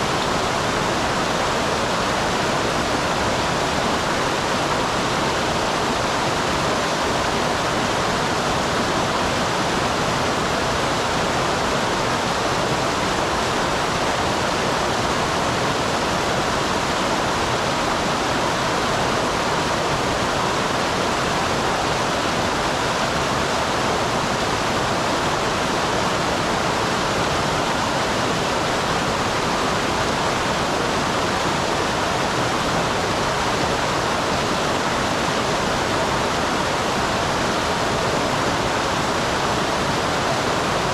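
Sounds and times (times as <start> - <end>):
small waterfall rushing: 0.0 - 40.9.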